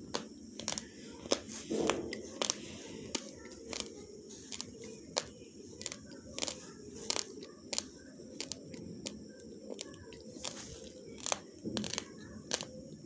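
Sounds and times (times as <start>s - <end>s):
raw rice crunched between teeth: 0.2s - 12.7s
low chewing rustle: 0.3s - 13.0s.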